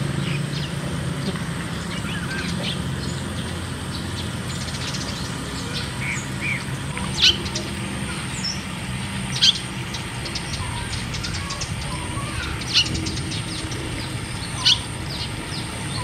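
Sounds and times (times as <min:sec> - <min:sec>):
birds chirping: 0:00.0 - 0:16.0
water spraying from leaking pipe: 0:00.0 - 0:16.0.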